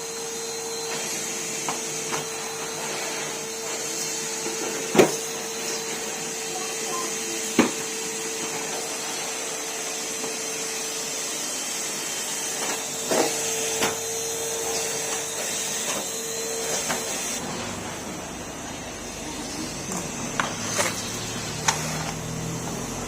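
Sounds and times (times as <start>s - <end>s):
vacuum cleaner humming: 0.0s - 23.0s.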